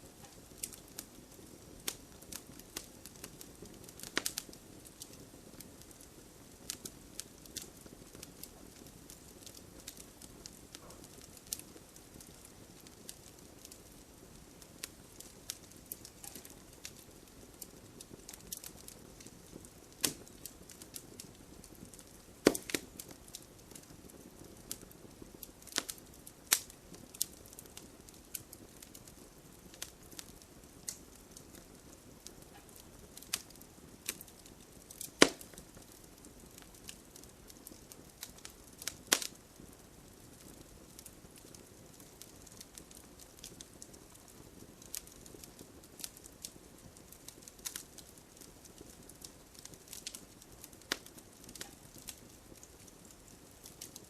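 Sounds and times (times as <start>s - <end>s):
fire hissing: 0.0s - 48.1s
fire crackling and popping: 0.0s - 54.0s.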